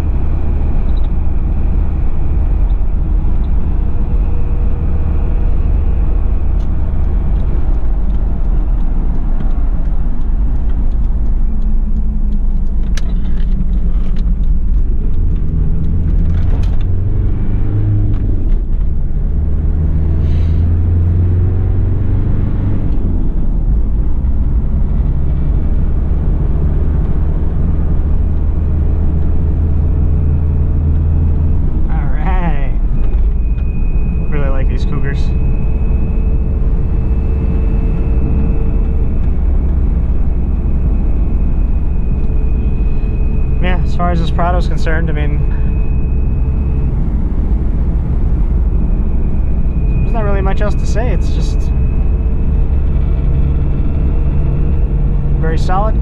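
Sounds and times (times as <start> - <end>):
diesel engine droning: 0.0 - 56.0
road noise: 0.0 - 56.0.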